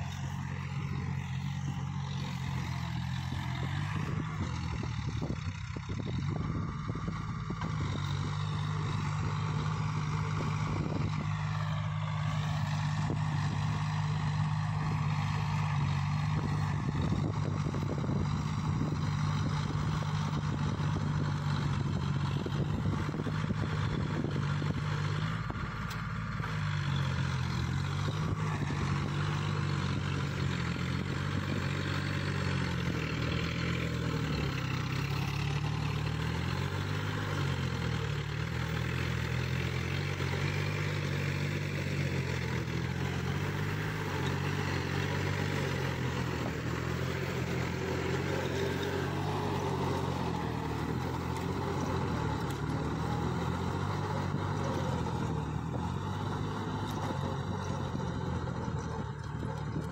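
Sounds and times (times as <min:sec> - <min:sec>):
tractor engine under load: 0:00.0 - 0:59.9.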